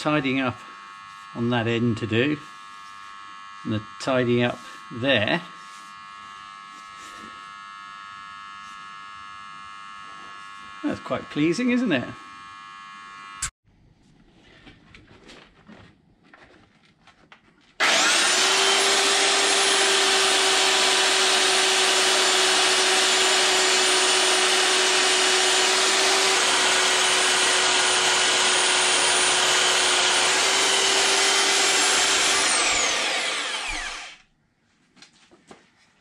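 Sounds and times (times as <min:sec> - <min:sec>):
belt sander running: 0:00.0 - 0:13.5, 0:17.8 - 0:34.3.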